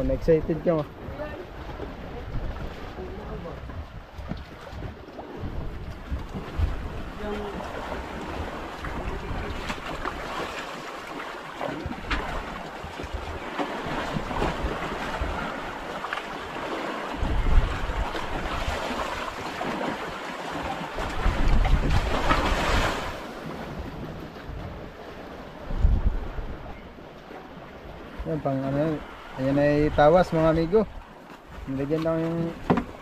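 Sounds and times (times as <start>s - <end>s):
wind blowing across microphone: 0.0s - 10.8s, 11.7s - 19.8s, 20.6s - 33.0s
water washing against boat: 0.0s - 33.0s.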